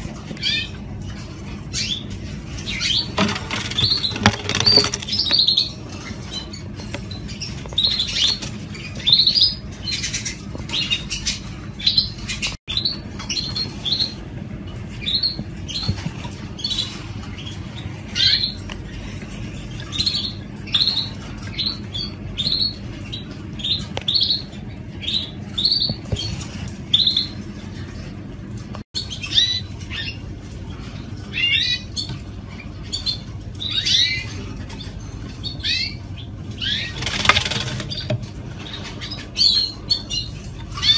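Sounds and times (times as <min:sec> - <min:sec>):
low background hum: 0:00.0 - 0:40.9
canaries chirping: 0:00.2 - 0:28.2, 0:29.0 - 0:40.9.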